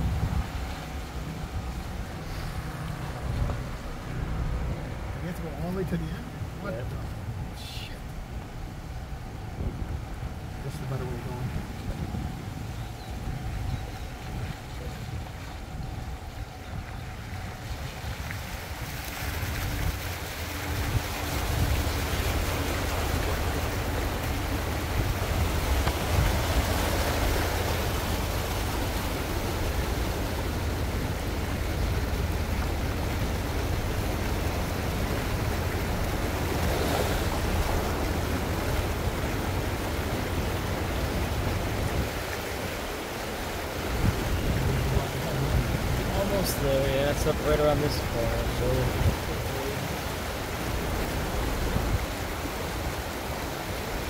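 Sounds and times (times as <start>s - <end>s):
moving vehicle rushing and rumble: 0.0s - 52.5s.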